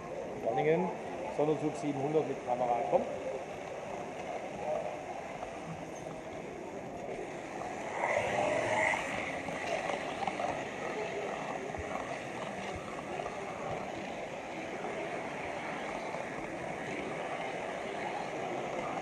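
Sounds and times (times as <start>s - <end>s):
model train wagon rolling: 1.5s - 19.0s.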